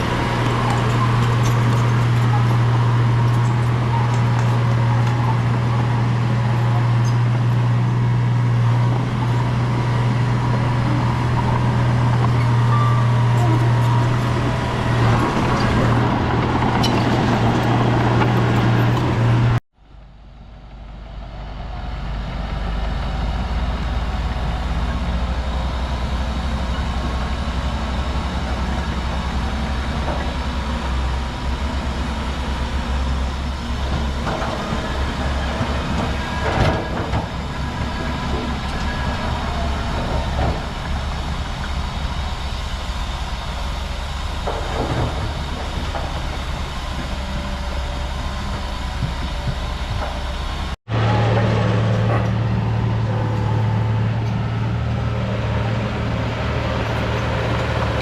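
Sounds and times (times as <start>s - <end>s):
deep engine rumble: 0.0s - 58.0s
diesel engine humming: 0.0s - 58.0s.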